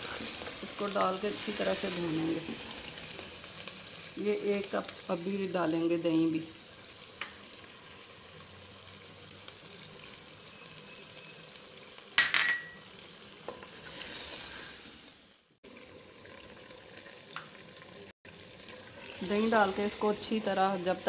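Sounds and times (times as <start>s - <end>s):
spices sizzling in a pot: 0.0s - 21.0s.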